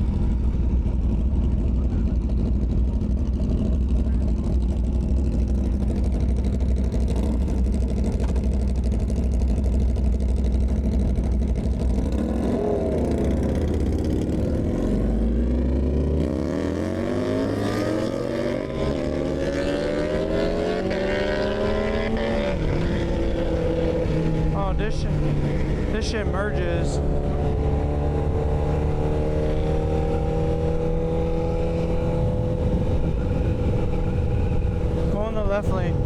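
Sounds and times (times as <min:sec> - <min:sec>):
low wind rumble: 0:00.0 - 0:36.0
motorcycle engine accelerating: 0:00.0 - 0:36.0.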